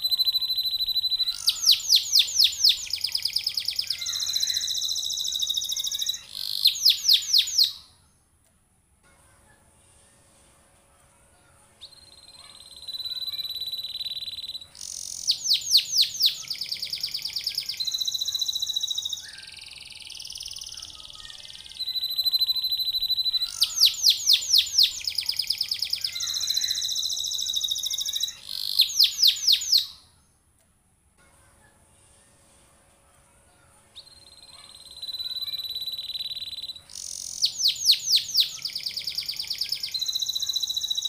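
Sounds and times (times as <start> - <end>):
canary singing: 0.0 - 8.0, 11.8 - 30.3, 34.0 - 41.0.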